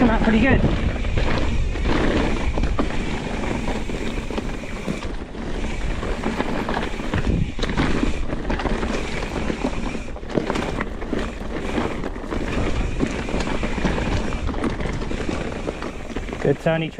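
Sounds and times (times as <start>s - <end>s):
bike rattles and knocks: 0.0s - 16.9s
bike tyre noise on dirt: 0.0s - 16.9s
wind buffeting microphone: 0.0s - 16.9s.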